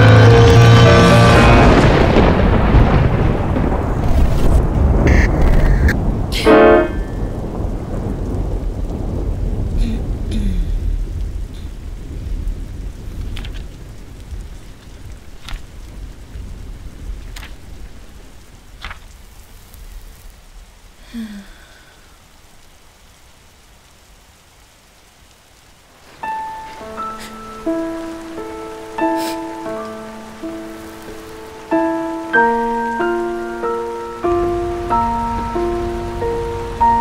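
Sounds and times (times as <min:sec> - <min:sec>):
thunder rumbling: 0:00.0 - 0:24.3, 0:24.9 - 0:37.0
steady rain: 0:00.0 - 0:37.0.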